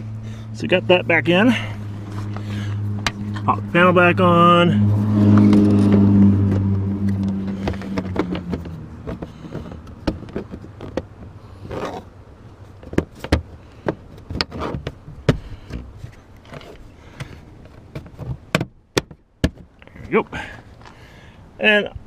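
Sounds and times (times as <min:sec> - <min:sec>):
vehicle-like hum: 0:00.0 - 0:22.0.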